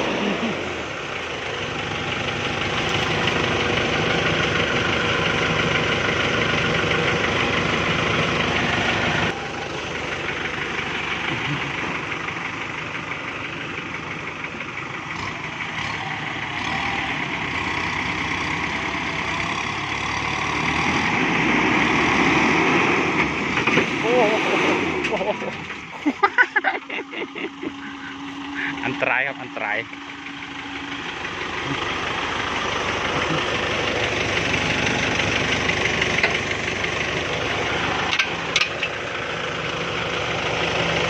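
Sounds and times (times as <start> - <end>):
tractor diesel engine straining: 0.0 - 41.0.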